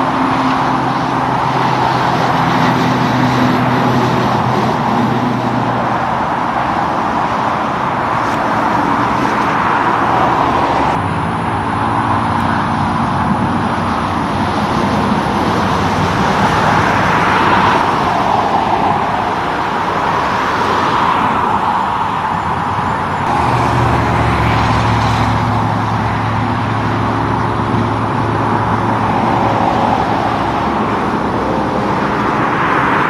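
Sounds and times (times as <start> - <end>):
highway traffic passing: 0.0 - 33.0.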